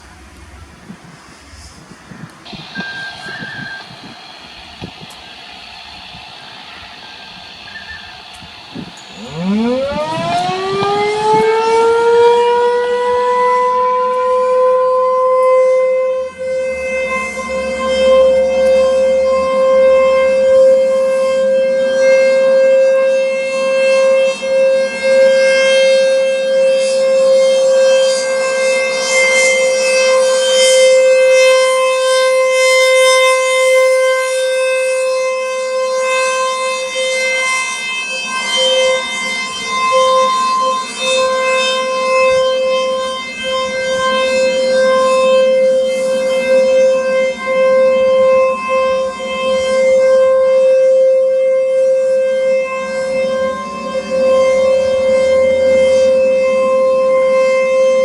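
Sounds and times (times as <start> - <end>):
outdoor warning siren: 0.0 - 58.0.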